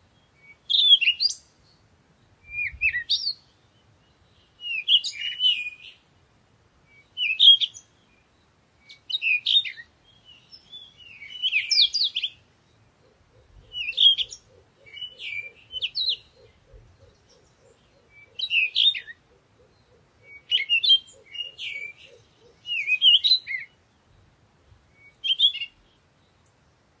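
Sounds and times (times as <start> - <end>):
songbird chirping and warbling: 0.0 - 27.0.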